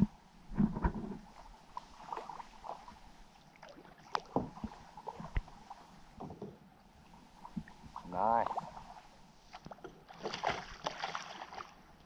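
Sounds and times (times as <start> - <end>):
paddle water splashes: 0.8 - 12.0.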